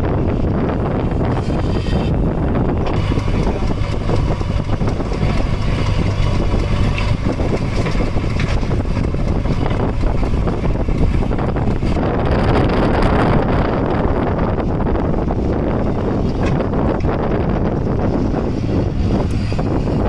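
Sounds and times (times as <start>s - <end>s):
diesel engine running: 0.0s - 20.0s
wind buffeting microphone: 0.0s - 20.0s.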